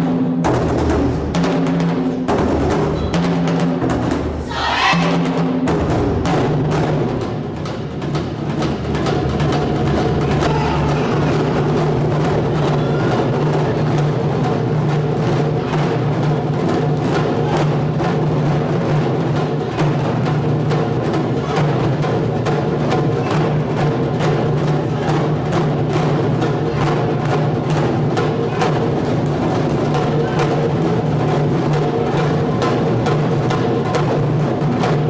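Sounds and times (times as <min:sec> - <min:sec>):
taiko drum ensemble: 0:00.0 - 0:35.0.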